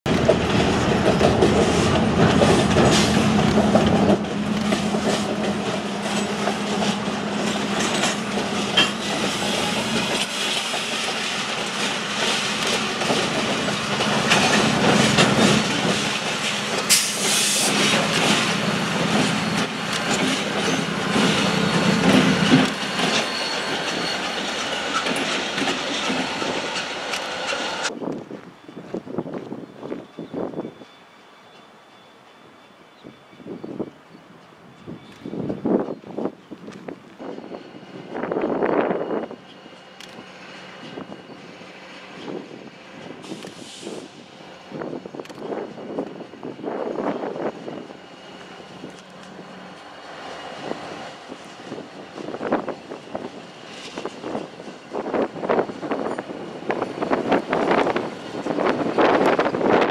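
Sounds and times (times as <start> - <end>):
train wheels clattering on rails: 0.1 - 31.7, 34.8 - 59.9
diesel locomotive engines humming: 0.1 - 59.9.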